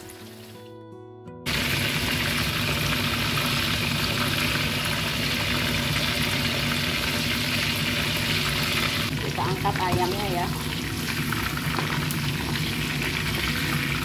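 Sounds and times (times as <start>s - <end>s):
chicken sizzling in hot oil: 0.0s - 0.7s, 1.5s - 14.0s.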